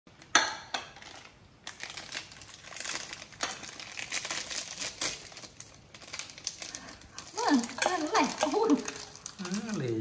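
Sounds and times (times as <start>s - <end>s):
wrapper crackling: 1.0s - 10.0s.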